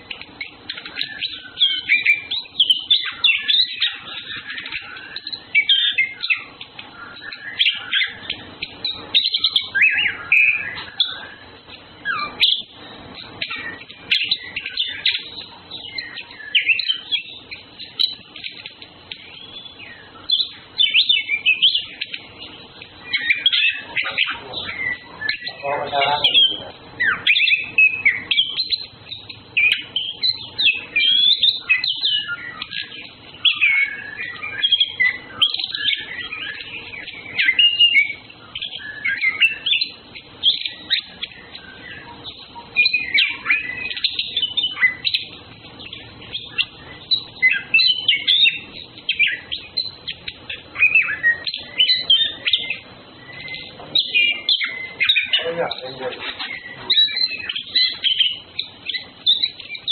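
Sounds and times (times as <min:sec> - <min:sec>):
thrush singing: 0:00.0 - 0:59.9.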